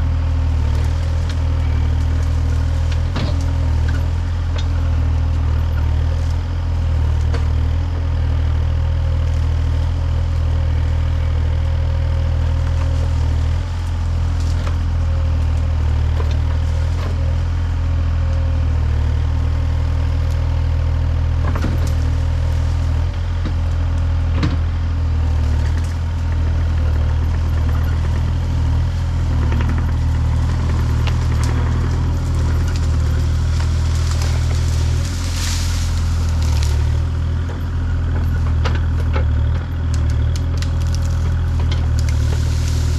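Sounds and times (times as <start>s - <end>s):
large engine running: 0.0s - 42.9s.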